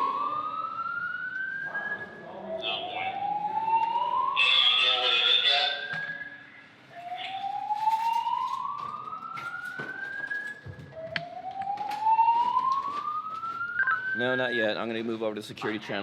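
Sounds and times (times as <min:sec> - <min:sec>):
fire alarm whooping tone: 0:00.0 - 0:14.9.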